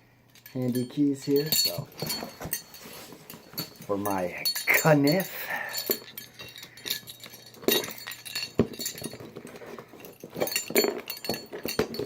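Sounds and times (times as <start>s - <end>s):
keys jangling: 0.4s - 12.0s.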